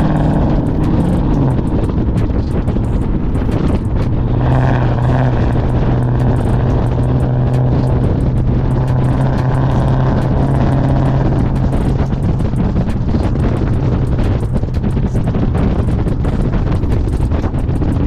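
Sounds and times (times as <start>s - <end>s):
loud car engine drone: 0.0s - 18.0s.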